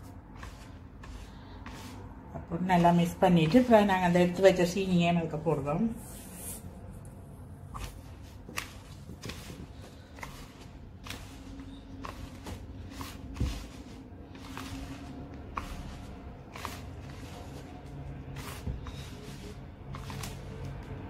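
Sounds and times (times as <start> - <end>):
hand scrunching flour in a bowl: 0.0 - 4.4, 7.7 - 21.0.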